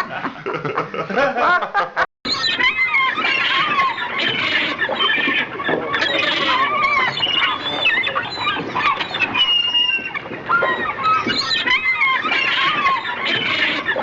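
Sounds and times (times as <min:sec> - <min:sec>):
animal squeals and squawks: 0:02.3 - 0:14.0.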